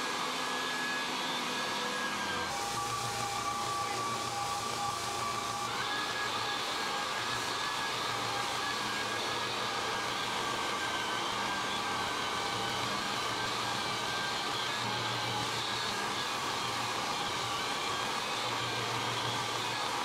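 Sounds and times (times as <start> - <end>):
floor sander running: 0.0 - 20.0.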